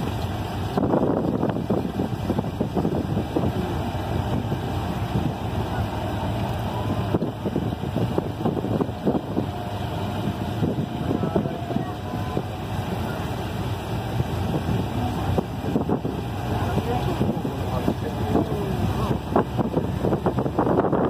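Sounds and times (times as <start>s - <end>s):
auto rickshaw engine running: 0.0s - 21.0s
wind on microphone: 0.0s - 21.0s.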